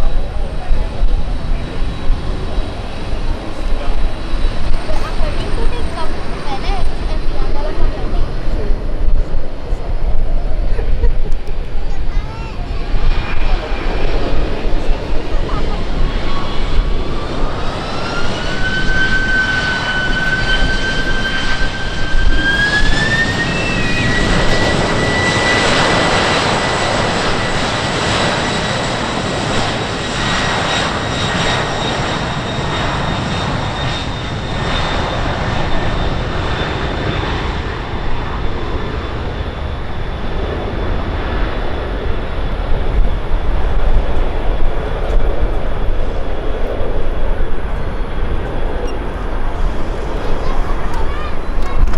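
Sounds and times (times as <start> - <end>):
airplane engine whine: 0.0 - 51.9
rush of engine noise: 0.0 - 51.9.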